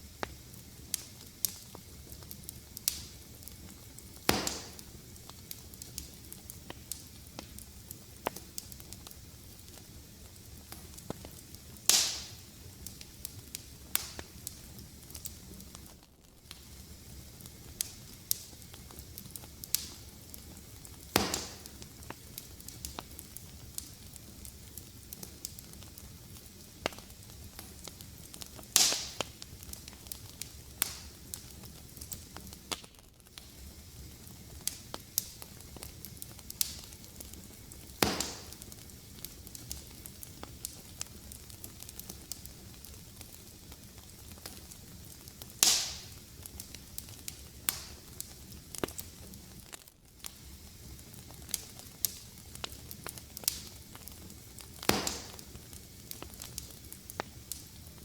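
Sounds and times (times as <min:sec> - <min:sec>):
fire crackling ticks: 0:00.0 - 0:58.0
fire pops: 0:00.0 - 0:58.0
low hiss: 0:00.0 - 0:58.0.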